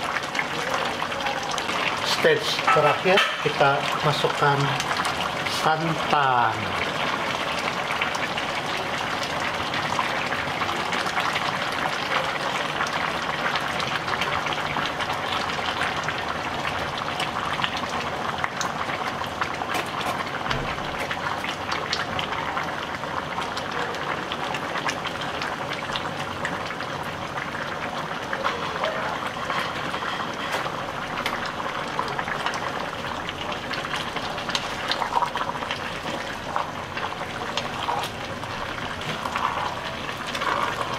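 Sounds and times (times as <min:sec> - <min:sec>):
curry bubbling in a pot: 0:00.0 - 0:40.9.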